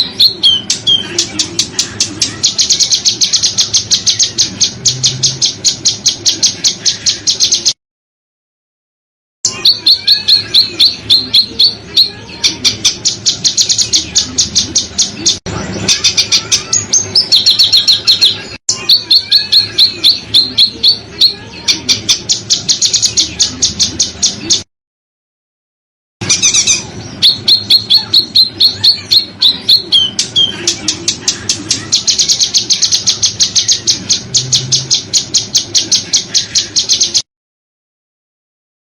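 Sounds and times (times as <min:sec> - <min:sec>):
songbird chirps: 0:00.0 - 0:07.8, 0:09.5 - 0:24.7, 0:26.2 - 0:37.2.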